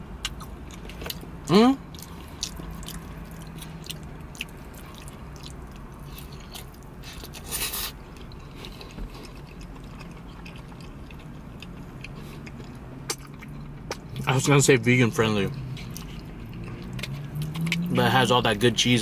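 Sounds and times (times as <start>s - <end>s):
chewing food: 0.2s - 1.3s, 1.9s - 14.3s, 15.5s - 17.9s.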